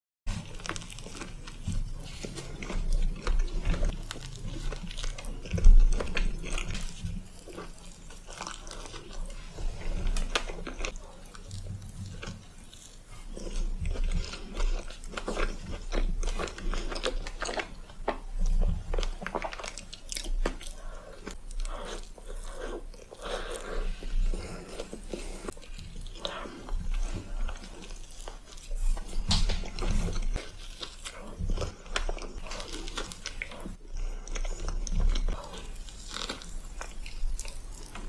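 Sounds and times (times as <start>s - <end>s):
pastry crunching: 0.3s - 38.0s
soft chewing: 0.3s - 38.0s.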